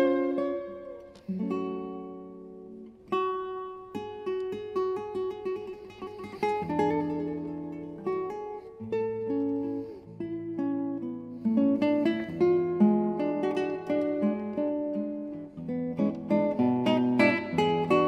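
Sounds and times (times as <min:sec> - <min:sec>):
classical guitar playing: 0:00.0 - 0:18.0.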